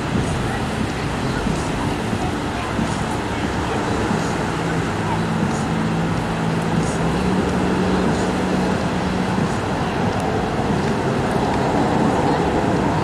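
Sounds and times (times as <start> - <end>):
broad rushing noise: 0.0 - 13.0.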